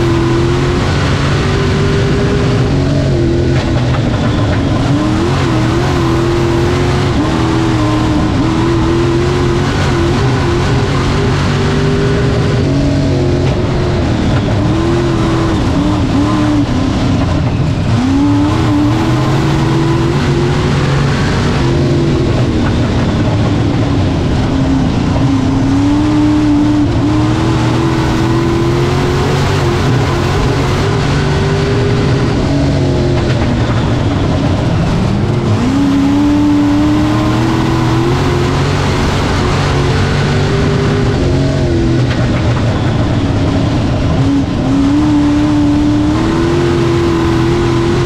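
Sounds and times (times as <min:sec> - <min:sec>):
race car engine running hard: 0:00.0 - 0:48.0
steady rush of noise: 0:00.0 - 0:48.0.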